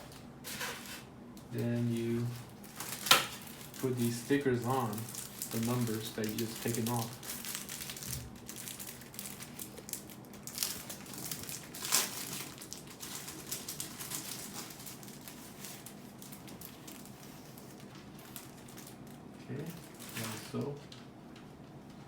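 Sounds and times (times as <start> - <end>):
sticker sheets crinkling: 0.0 - 20.7
loud plastic crackle: 0.0 - 21.0.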